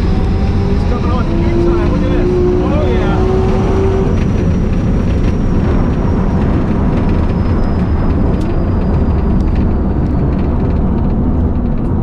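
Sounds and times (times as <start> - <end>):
wind and road rumble in car: 0.0 - 12.0.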